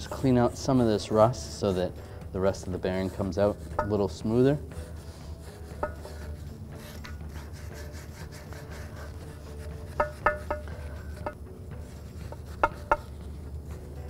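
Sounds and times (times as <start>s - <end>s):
wire brush scrubbing metal: 0.0s - 13.4s.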